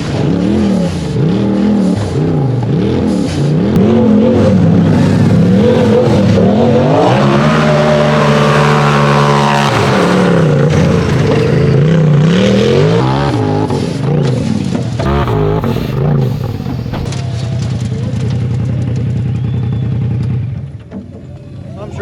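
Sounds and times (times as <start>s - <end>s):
buggy engine revving hard: 0.0s - 20.8s.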